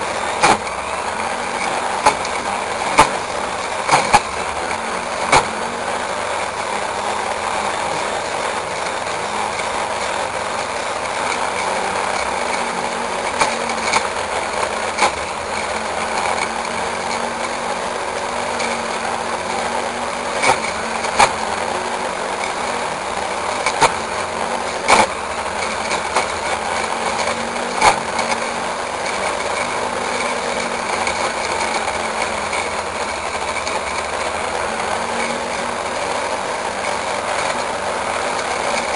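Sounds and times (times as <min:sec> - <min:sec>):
blade cutting dry weeds: 0:00.0 - 0:38.9
brush cutter engine running: 0:00.0 - 0:38.9.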